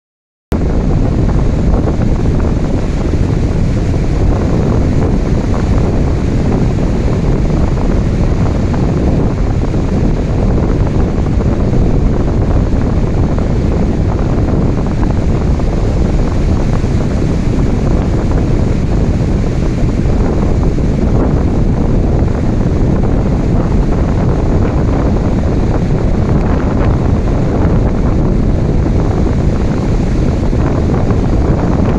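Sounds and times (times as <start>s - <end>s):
ocean waves: 0.6s - 31.9s.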